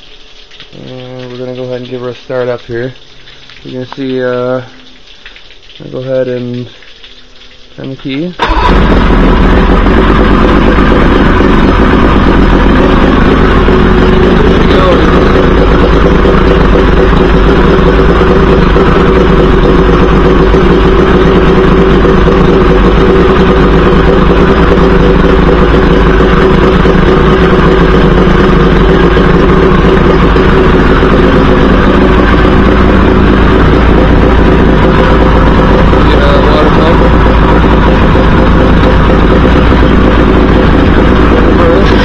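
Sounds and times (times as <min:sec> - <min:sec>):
outboard motor running: 0:08.0 - 0:42.0.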